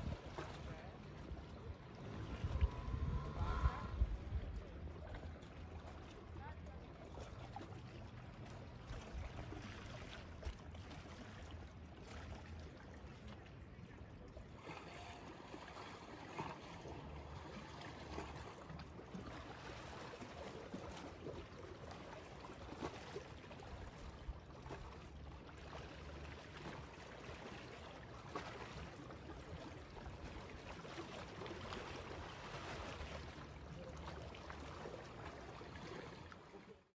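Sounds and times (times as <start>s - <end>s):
faint low rumble: 0.0s - 36.8s
small waves lapping: 0.0s - 36.9s.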